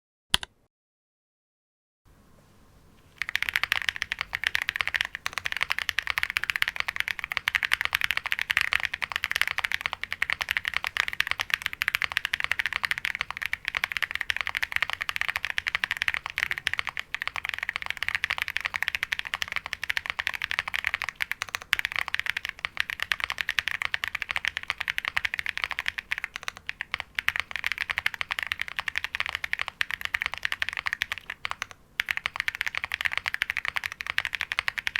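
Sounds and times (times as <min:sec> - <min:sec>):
fast mechanical keyboard typing: 0:03.1 - 0:34.9.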